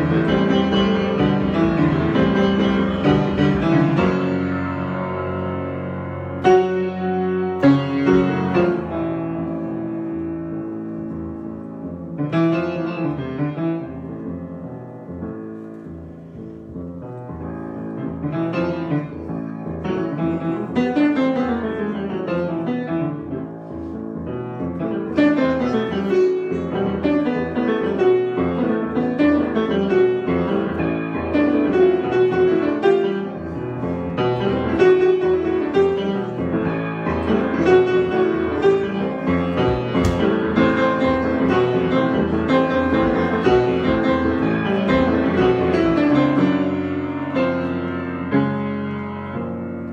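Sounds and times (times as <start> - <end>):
solo piano improvisation: 0.0 - 49.9.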